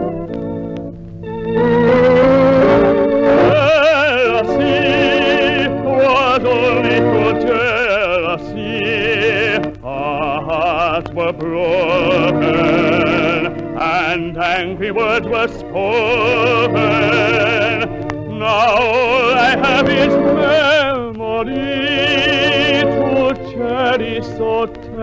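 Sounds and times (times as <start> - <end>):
musical accompaniment: 0.0 - 25.0
sustained organ chord: 0.0 - 25.0
operatic singing with vibrato: 1.5 - 25.0.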